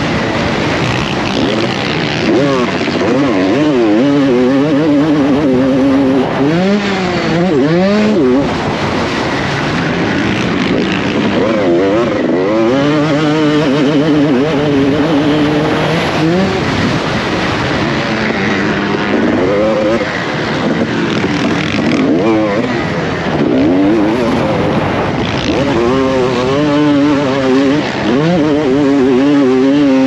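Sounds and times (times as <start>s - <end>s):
motocross engine revving: 0.0s - 30.0s
wind on microphone: 0.0s - 30.0s.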